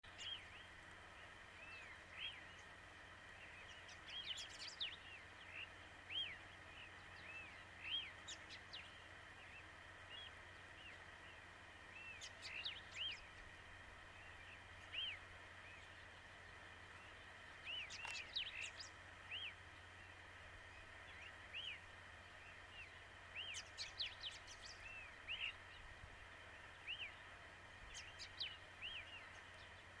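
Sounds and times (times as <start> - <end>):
birds chirping: 0.0 - 30.0
faint steady hum: 0.0 - 30.0.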